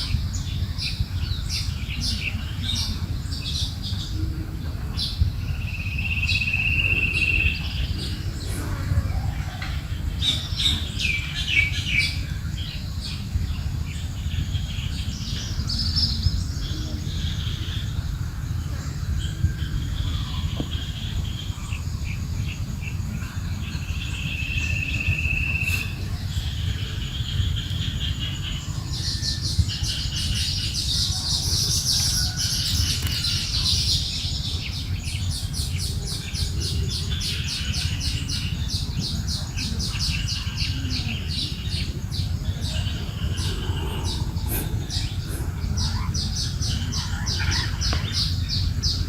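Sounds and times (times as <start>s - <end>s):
forest birds singing: 0.0s - 49.0s
steady low rumble: 0.0s - 49.0s.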